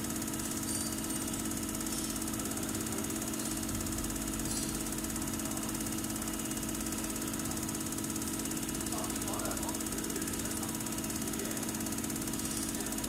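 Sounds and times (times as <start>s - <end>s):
machine hum with fast ticking: 0.0s - 13.0s.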